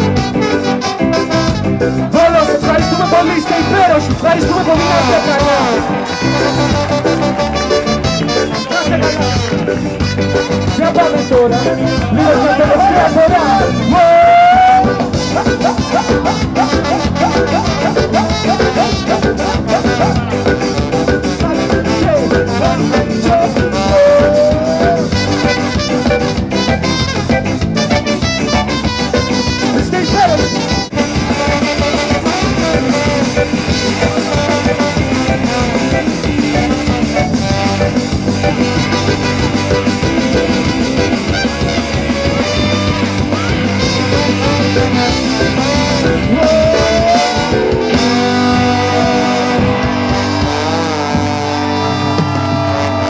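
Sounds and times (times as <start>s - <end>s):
ska band playing: 0.0s - 53.0s.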